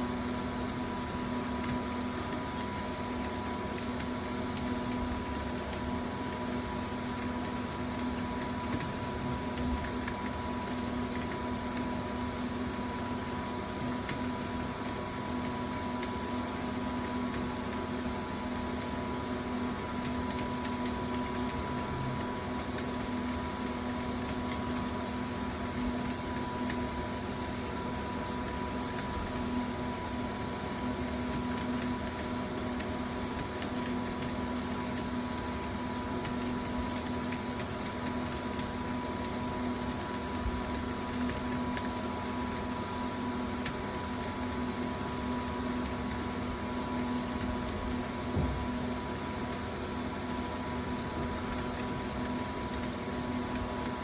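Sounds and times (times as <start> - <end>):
electrical fan-like hum: 0.0 - 54.0.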